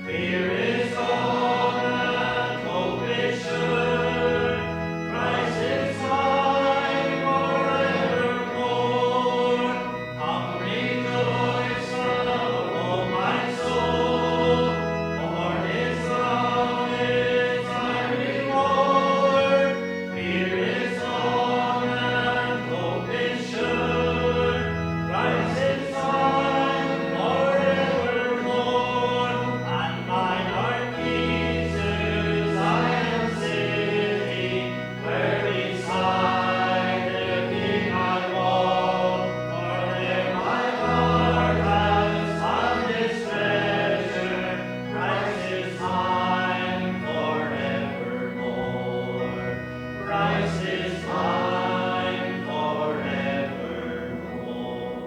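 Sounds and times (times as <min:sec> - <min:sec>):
choir singing a hymn: 0:00.0 - 0:55.0
instrumental accompaniment: 0:00.0 - 0:55.0.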